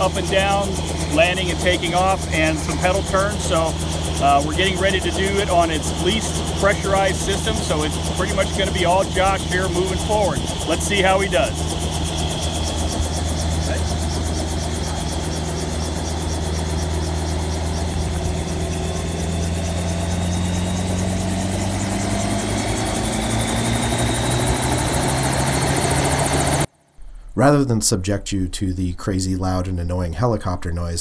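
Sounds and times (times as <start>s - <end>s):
helicopter engine: 0.0s - 27.5s
helicopter rotor chopping: 0.0s - 27.7s.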